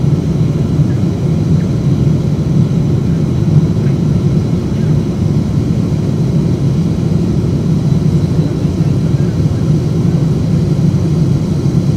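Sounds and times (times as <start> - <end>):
airplane cabin engine drone: 0.0 - 11.9.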